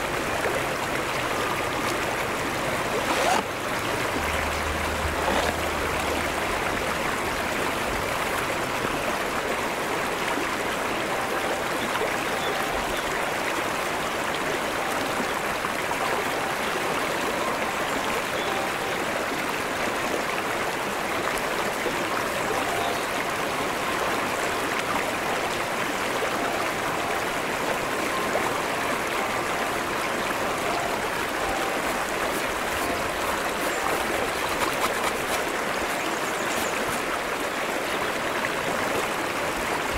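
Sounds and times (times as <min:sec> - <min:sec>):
brook running over rocks: 0:00.0 - 0:39.9.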